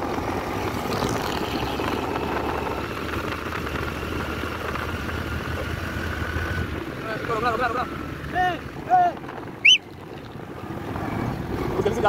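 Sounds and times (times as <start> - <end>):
road noise: 0.0 - 12.0
vehicle engine: 0.0 - 12.0.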